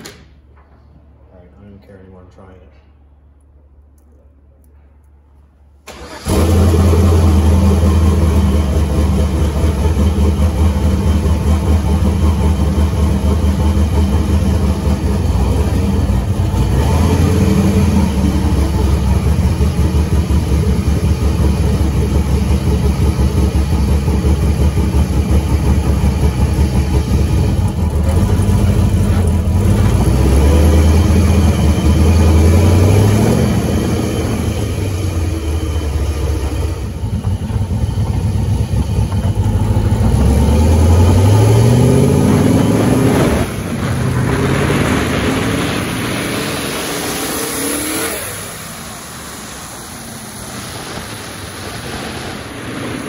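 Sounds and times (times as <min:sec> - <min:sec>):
turbocharged engine revving: 0:05.9 - 0:53.0.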